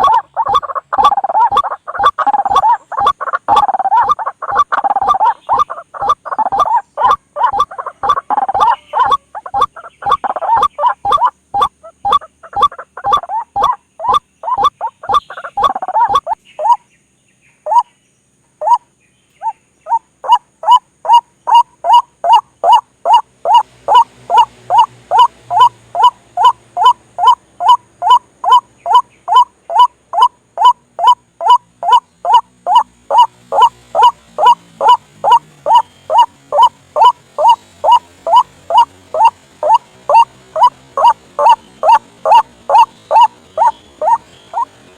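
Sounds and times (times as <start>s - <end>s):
bird calls: 0.0s - 44.9s.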